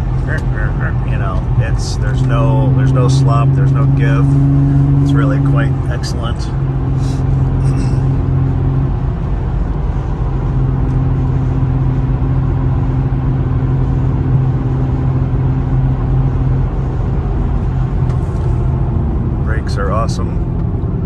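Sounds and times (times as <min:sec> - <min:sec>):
car engine drone in cabin: 0:00.0 - 0:21.0
tyre and road noise: 0:00.0 - 0:21.0.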